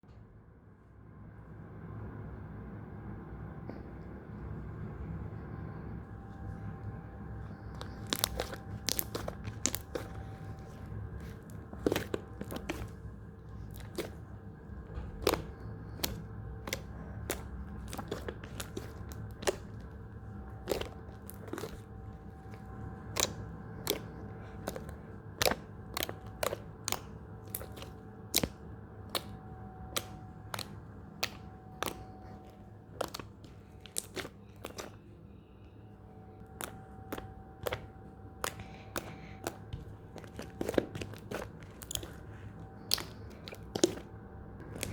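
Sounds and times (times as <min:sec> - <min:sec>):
steady low hum: 0:00.0 - 0:44.9
slime squished with crackling pops: 0:07.5 - 0:35.8, 0:36.4 - 0:44.9.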